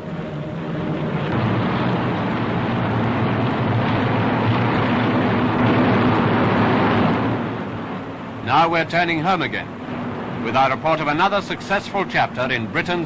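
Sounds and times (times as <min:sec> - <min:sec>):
bomber engines droning: 0:00.0 - 0:13.0.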